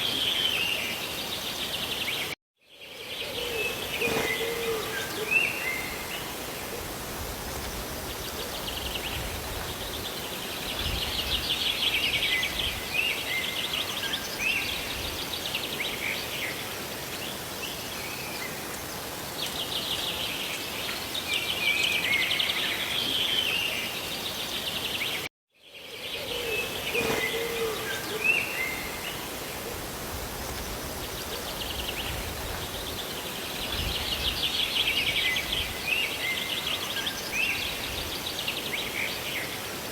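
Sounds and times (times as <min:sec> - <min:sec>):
rain hiss: 0:00.0 - 0:25.3, 0:26.3 - 0:39.9
small birds trilling and chirping: 0:00.0 - 0:39.9.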